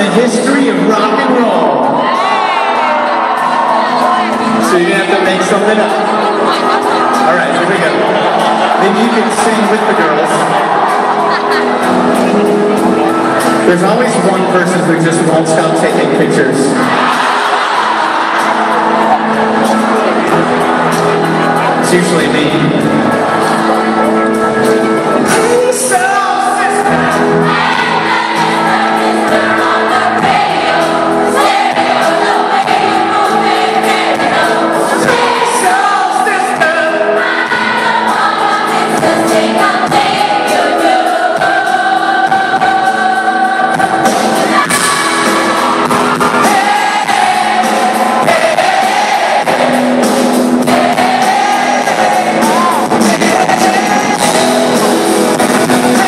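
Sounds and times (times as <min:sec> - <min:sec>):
group of voices singing along: 0:00.0 - 0:56.0
live pop-rock band music: 0:00.0 - 0:56.0.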